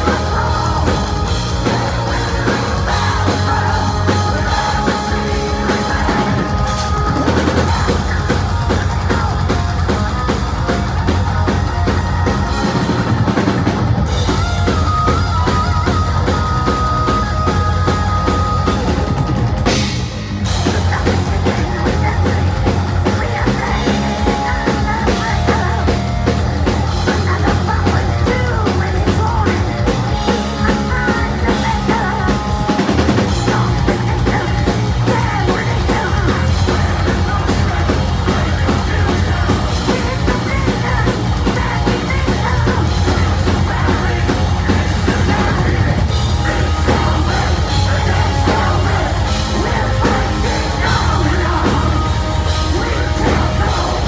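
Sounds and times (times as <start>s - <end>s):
man singing: 0.0s - 9.9s, 20.6s - 54.0s
bass guitar: 0.0s - 54.0s
distorted electric guitars: 0.0s - 54.0s
drum kit: 0.0s - 54.0s.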